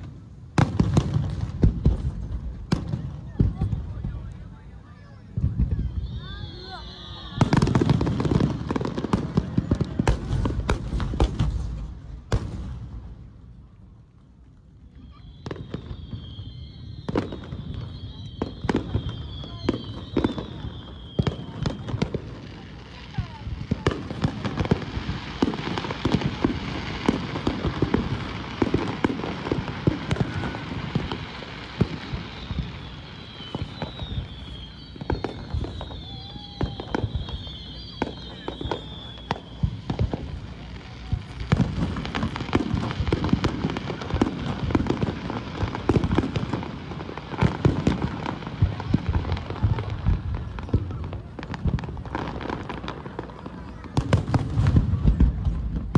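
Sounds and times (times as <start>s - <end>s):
crackle of firework pops: 0.0s - 4.5s, 7.2s - 22.7s, 23.4s - 55.9s.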